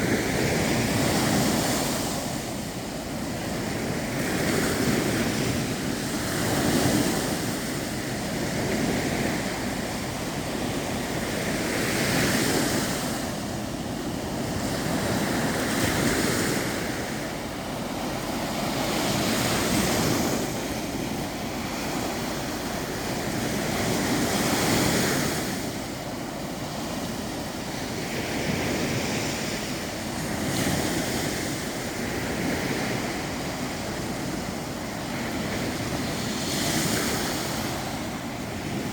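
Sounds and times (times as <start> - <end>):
waves breaking on shore: 0.0 - 38.9
wind noise on microphone: 0.0 - 38.9.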